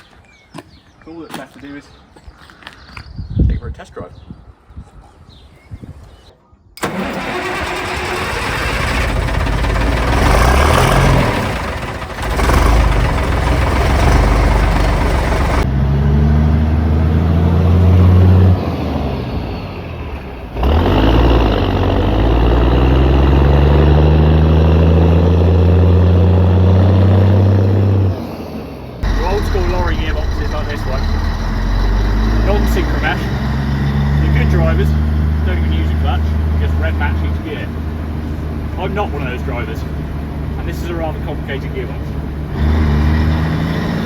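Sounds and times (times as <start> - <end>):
lorry diesel engine accelerating: 6.8 - 44.0.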